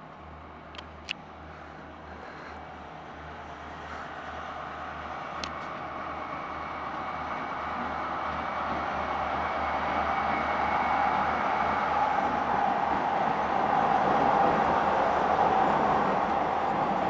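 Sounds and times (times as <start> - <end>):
diesel locomotives approaching: 0.0 - 17.0.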